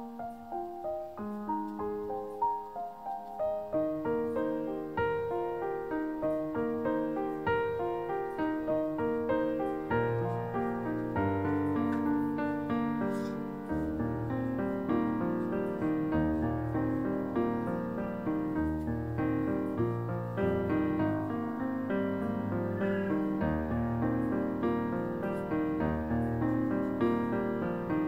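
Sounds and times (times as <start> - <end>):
calm piano music: 0.0 - 28.0.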